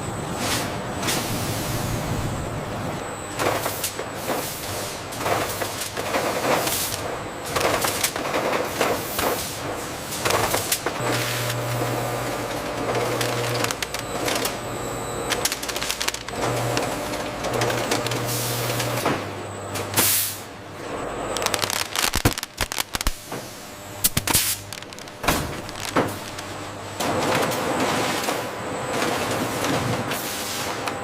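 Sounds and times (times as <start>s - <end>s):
machinery hum: 0.0s - 31.0s.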